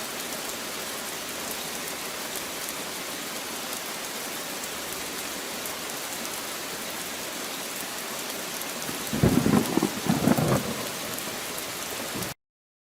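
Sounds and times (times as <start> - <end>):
steady rain-like hiss: 0.0 - 12.4.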